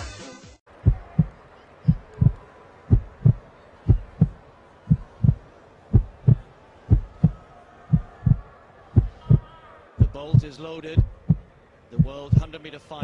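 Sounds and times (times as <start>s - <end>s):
heartbeat thumps: 0.8s - 8.4s, 9.0s - 13.0s.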